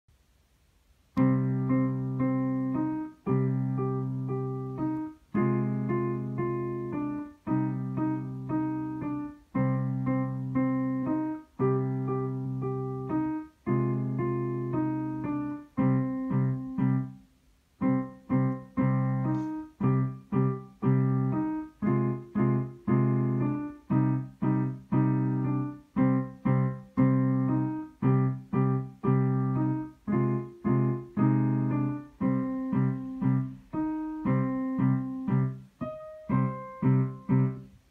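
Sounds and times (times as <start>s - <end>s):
digital piano playing: 1.2s - 37.9s.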